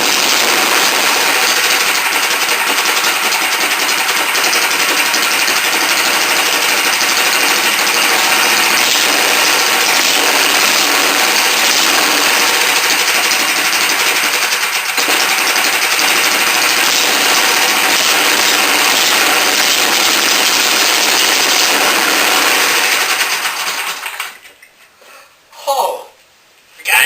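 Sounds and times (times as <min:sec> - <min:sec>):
go-kart engine running: 0:00.0 - 0:24.4.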